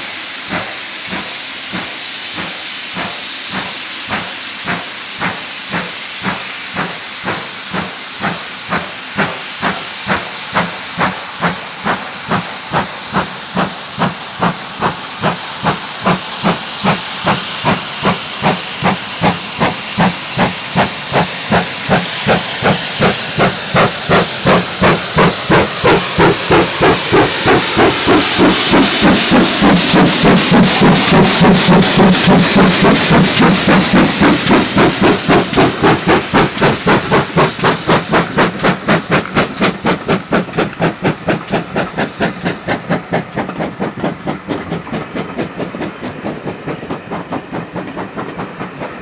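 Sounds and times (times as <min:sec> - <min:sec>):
steam locomotive chuffing: 0:00.0 - 0:49.0.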